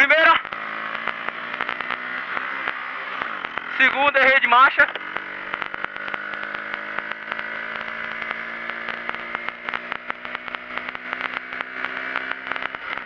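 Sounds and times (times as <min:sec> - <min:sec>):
motorcycle engine accelerating: 0:00.0 - 0:13.0
clicks and rattles on microphone: 0:00.3 - 0:04.0, 0:04.7 - 0:13.0.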